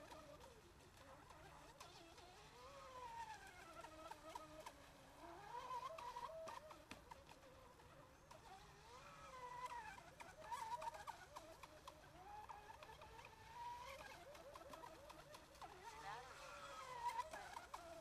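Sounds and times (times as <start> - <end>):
distant model boat motor whining: 0.0 - 18.0.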